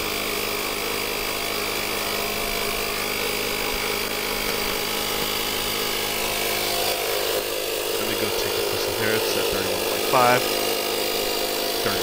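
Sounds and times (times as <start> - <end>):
portable air compressor running: 0.0 - 12.0.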